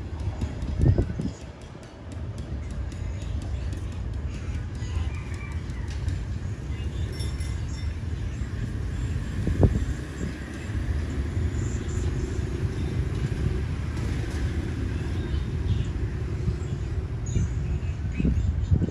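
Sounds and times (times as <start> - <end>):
passenger train rumbling: 0.0 - 18.9.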